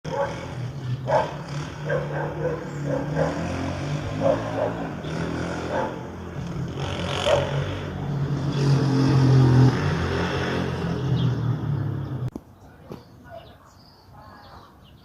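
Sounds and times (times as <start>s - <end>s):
vehicle engine passing: 0.1s - 12.3s.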